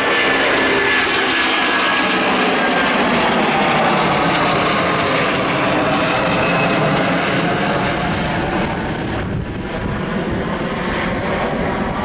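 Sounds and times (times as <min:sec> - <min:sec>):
jet engine roar: 0:00.0 - 0:12.0.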